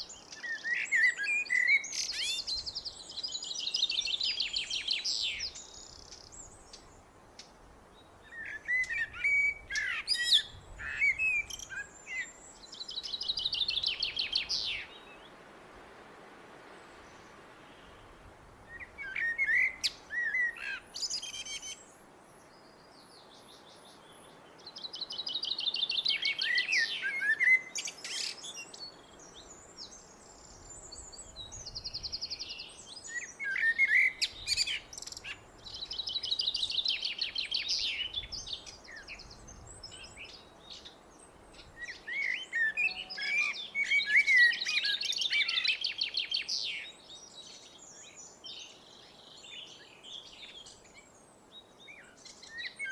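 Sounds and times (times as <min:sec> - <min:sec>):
blackbird singing: 0:00.0 - 0:06.9, 0:08.2 - 0:15.2, 0:18.7 - 0:21.9, 0:22.5 - 0:52.9.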